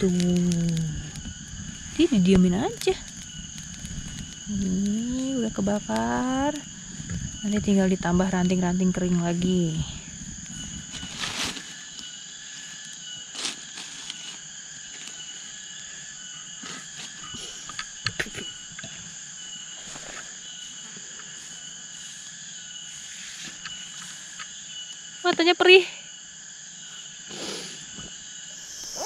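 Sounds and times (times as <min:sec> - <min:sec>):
insect chorus chirring: 0:00.0 - 0:29.0.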